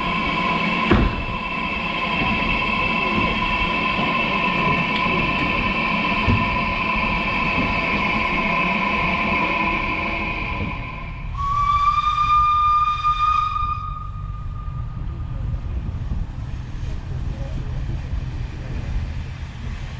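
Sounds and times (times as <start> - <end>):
steam train rumbling: 0.0 - 19.9.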